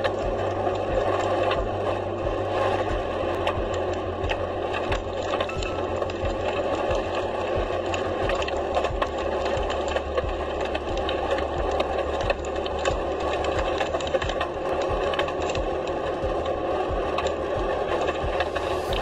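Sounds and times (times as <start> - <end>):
continuous rushing noise: 0.0 - 19.0.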